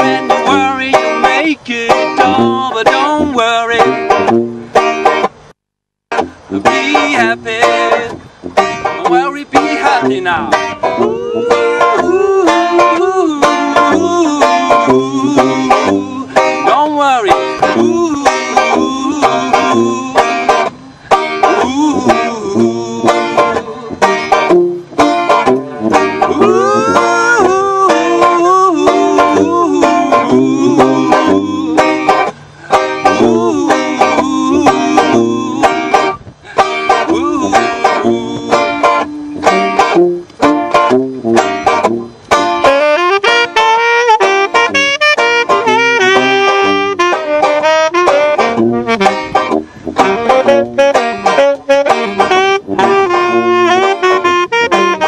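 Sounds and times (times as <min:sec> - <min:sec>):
banjo strumming: 0:00.0 - 0:05.5, 0:06.1 - 0:55.0
saxophone melody: 0:00.0 - 0:05.5, 0:06.1 - 0:55.0
tuba bass notes: 0:00.0 - 0:05.5, 0:06.1 - 0:55.0.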